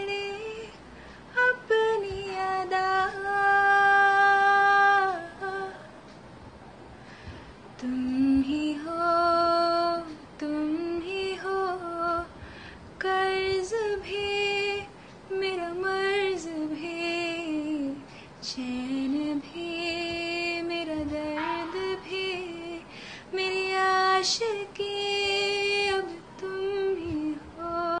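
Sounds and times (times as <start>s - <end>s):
woman singing unaccompanied: 0.0s - 6.0s, 7.8s - 28.0s.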